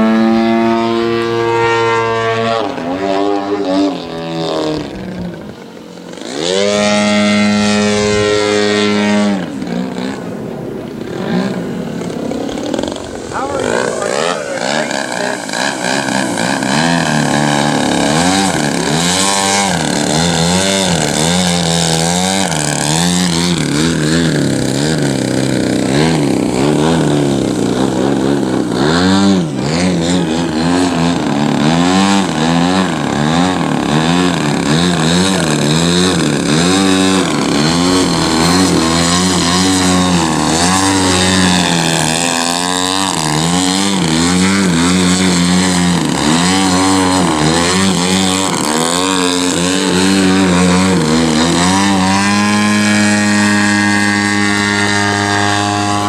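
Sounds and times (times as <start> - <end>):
model airplane engine and propeller: 0.0 - 56.0.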